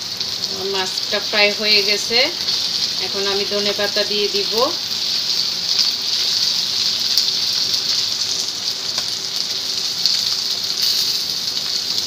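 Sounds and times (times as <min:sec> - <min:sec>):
fish and onions sizzling in oil: 0:00.0 - 0:12.0.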